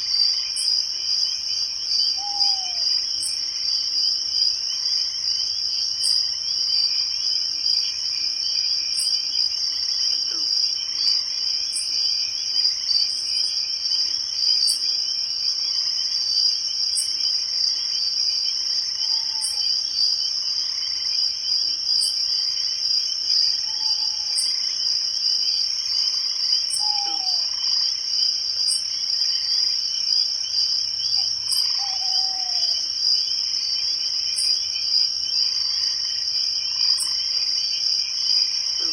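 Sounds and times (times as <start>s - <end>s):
crickets and insects trilling: 0.0s - 38.9s.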